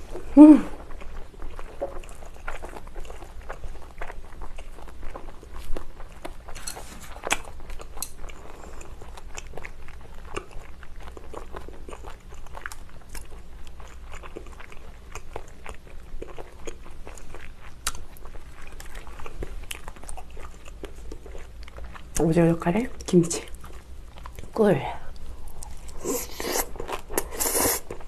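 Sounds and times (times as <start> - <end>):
close chewing with mouth clicks: 0.0 - 28.0.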